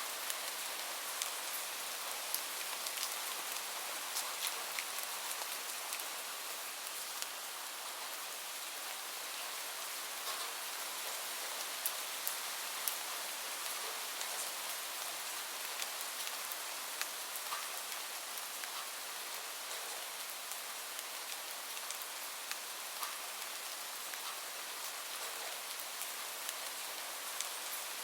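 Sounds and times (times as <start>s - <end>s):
rain drops ticking on hard surface: 0.1s - 28.0s.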